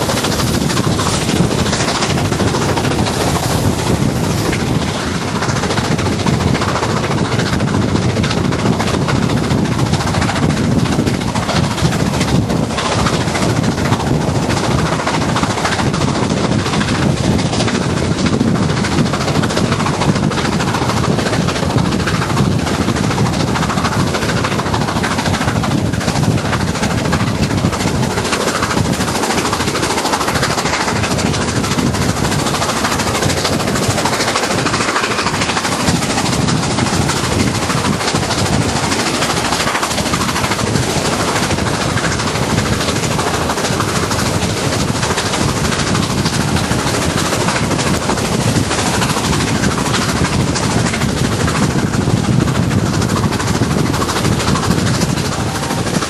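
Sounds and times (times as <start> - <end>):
rush of air: 0.0 - 56.0
steam locomotive exhaust chatter: 0.0 - 56.0
train running on rails: 0.0 - 56.0.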